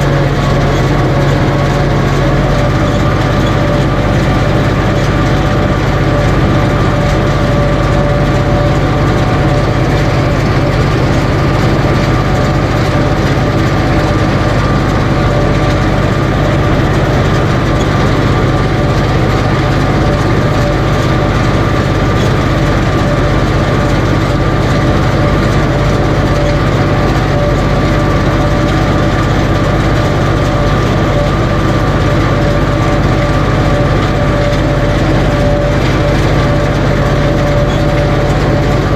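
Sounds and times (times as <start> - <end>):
tractor engine running under load: 0.0 - 38.9.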